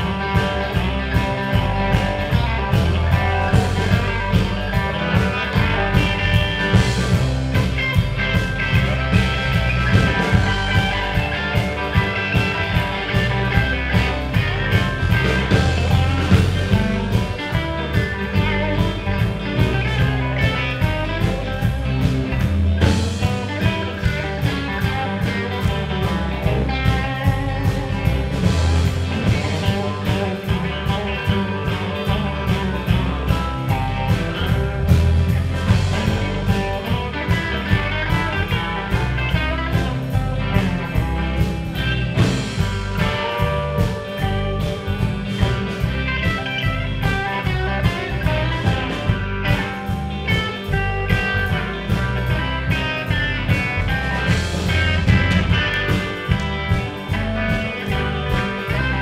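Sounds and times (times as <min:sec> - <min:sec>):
bass guitar: 0:00.0 - 0:59.0
drum kit beat: 0:00.0 - 0:59.0
electric guitars: 0:00.0 - 0:59.0.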